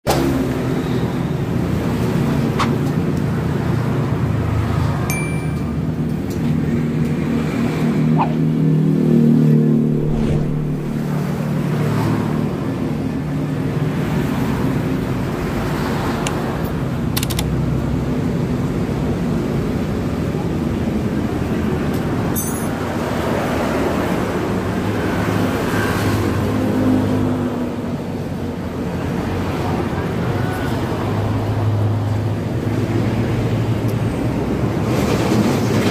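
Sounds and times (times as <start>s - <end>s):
motor vehicles rumbling: 0.0s - 35.9s.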